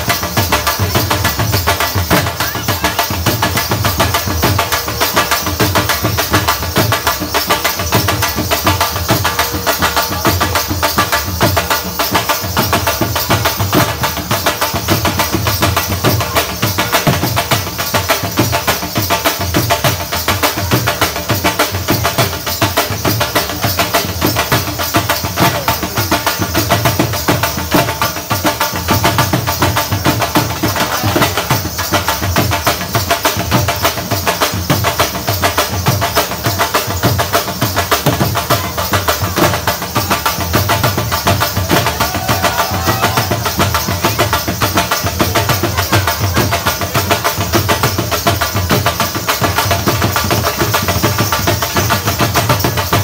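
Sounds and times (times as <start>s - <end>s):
drums beating fast rhythm: 0.0s - 53.0s.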